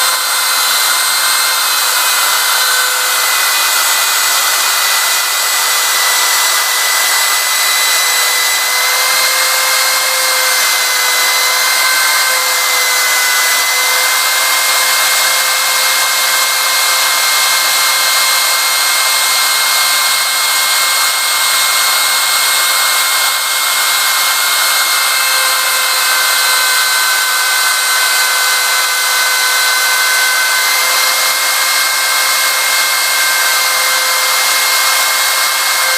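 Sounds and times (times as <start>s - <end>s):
spindle motor high whine: 0.0s - 35.9s.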